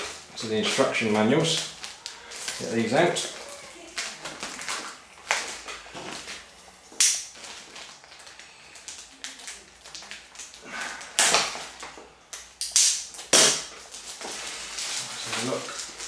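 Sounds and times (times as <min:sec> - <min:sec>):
plastic packaging crinkling: 0:00.0 - 0:12.0, 0:13.0 - 0:16.0.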